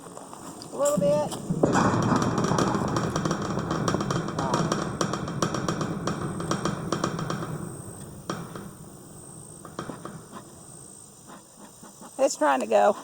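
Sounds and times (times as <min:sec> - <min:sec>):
bee smoker puffing clicks: 0:02.1 - 0:13.0.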